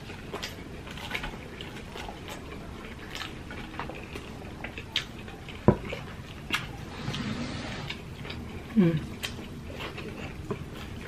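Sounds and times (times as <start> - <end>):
chewing and lip smacks: 0.0 - 6.9, 7.9 - 11.0.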